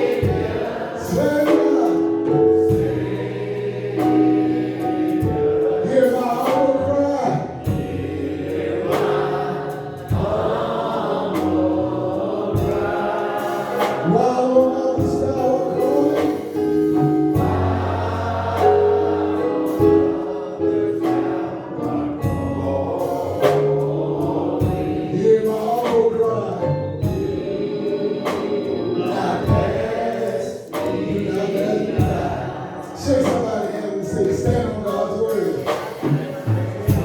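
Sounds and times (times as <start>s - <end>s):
gospel choir singing: 0.0s - 37.0s.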